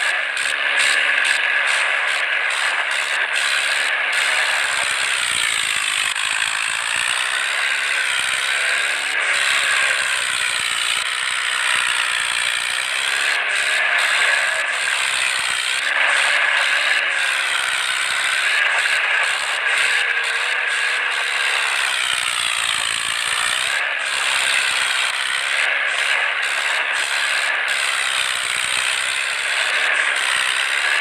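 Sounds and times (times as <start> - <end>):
machinery rattling and clattering: 0.0 - 31.0.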